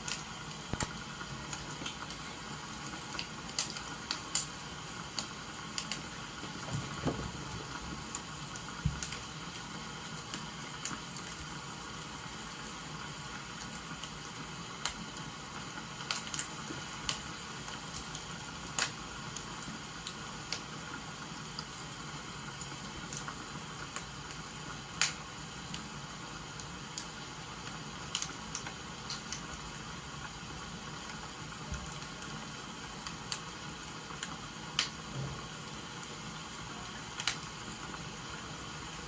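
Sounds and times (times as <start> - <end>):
firewood crackling and popping: 0.0 - 38.4
falling rain hiss: 0.0 - 39.0.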